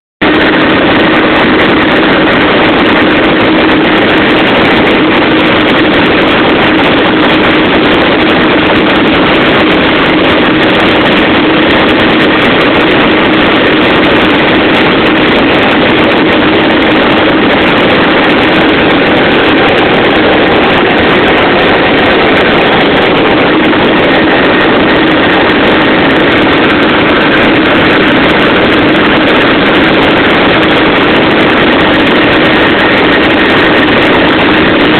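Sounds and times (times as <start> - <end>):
helicopter engine and rotor noise: 0.2 - 34.9.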